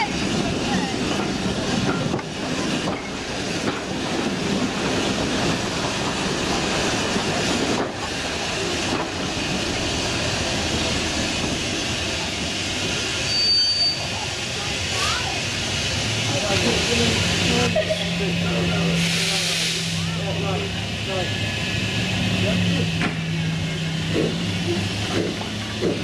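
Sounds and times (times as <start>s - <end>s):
train wheels rumbling on rails: 0.0s - 26.0s
steam hissing: 0.1s - 26.0s.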